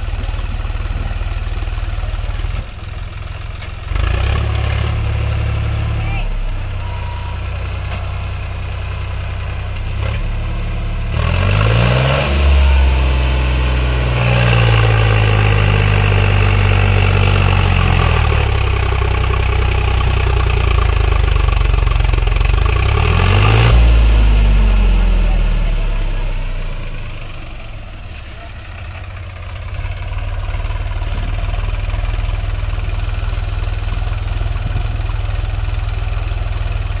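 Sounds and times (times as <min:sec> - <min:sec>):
tractor diesel engine revving: 0:00.0 - 0:37.0.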